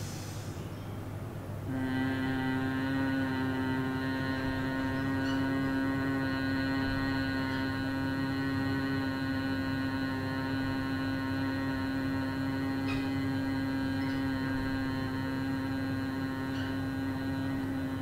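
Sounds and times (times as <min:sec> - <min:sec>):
man humming a held note: 0:01.7 - 0:18.0.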